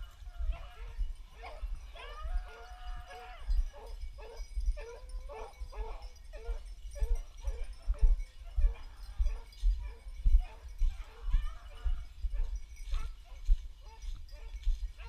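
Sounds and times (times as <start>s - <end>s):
dogs baying and barking: 0.0s - 15.0s.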